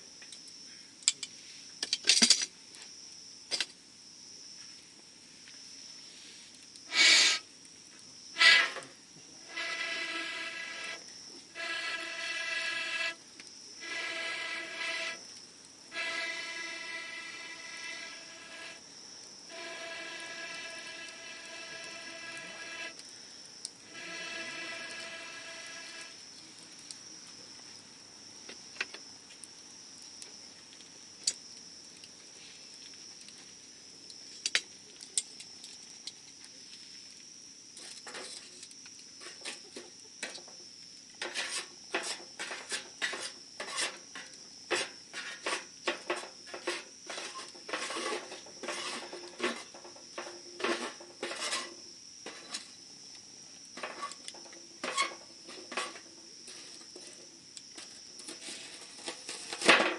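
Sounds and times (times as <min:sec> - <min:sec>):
campfire crackling and popping: 0:00.1 - 0:51.2.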